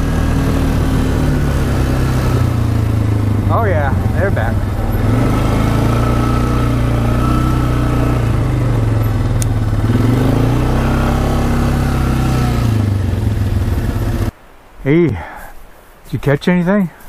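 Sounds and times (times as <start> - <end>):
off-road vehicle engine running: 0.0 - 14.3.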